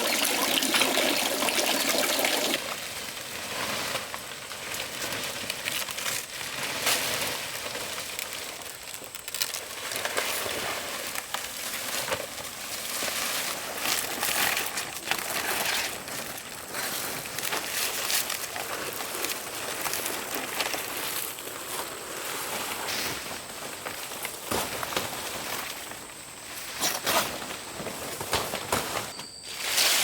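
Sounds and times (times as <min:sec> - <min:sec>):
dry leaves rustling: 0:02.6 - 0:30.0.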